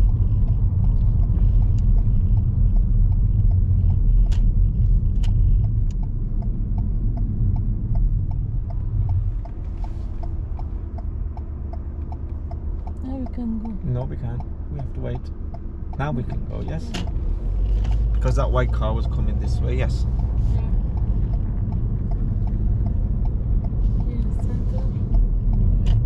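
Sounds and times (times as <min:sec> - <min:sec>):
car road and engine rumble: 0:00.0 - 0:26.0
turn indicator ticking: 0:00.0 - 0:26.0.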